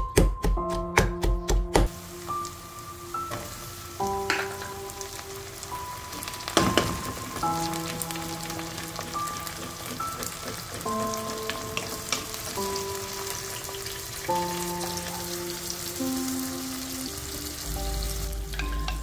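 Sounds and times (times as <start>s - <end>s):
soft background melody: 0.0s - 19.0s
spices sizzling in hot oil: 1.9s - 19.0s.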